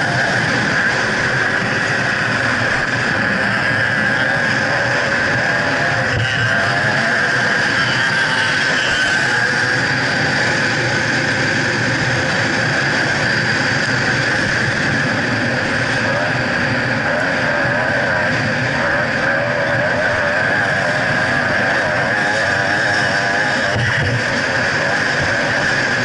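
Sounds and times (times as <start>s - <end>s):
two-stroke motorbike engine revving: 0.0s - 26.0s
wind rush and riding noise: 0.0s - 26.0s.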